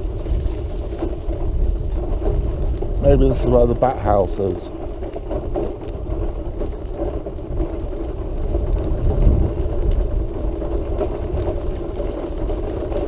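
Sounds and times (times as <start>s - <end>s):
wheelchair motor hum: 0.0s - 13.0s
wheels rumbling on path: 0.0s - 13.0s.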